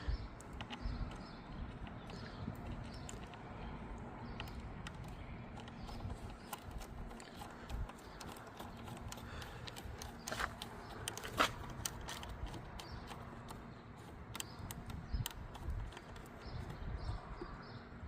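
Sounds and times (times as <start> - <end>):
metal clicks of battery cable: 0.1 - 17.7.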